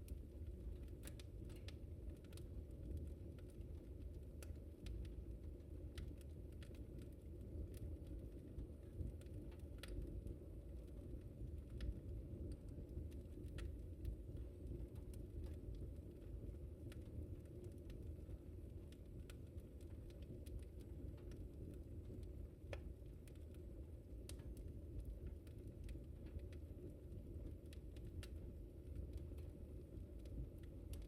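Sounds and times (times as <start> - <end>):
low fire rumble: 0.0 - 31.0
wood fire crackling: 0.0 - 31.0.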